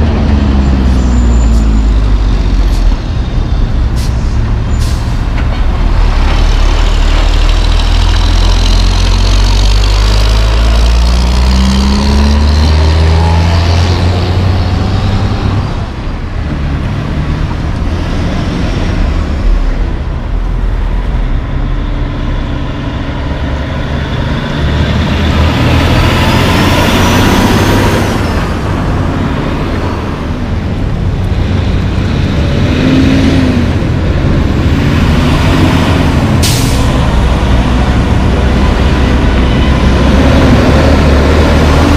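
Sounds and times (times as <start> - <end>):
diesel trucks driving past: 0.0 - 41.9.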